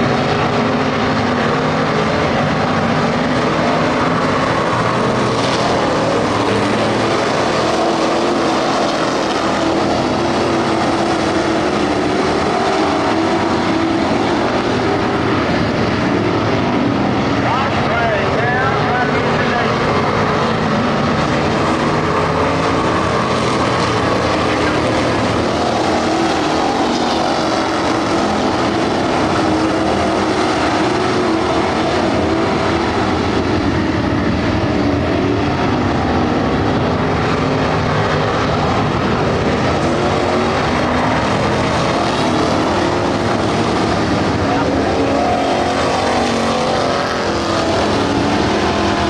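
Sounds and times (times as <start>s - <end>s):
race car engines droning: 0.0s - 49.0s.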